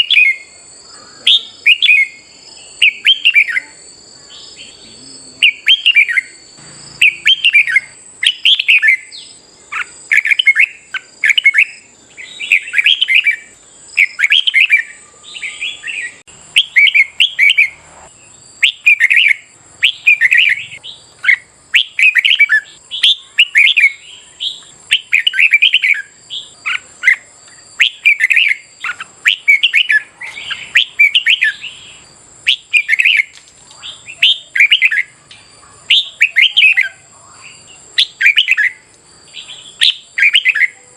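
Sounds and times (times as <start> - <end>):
bird singing warbling phrases: 0.0 - 40.9.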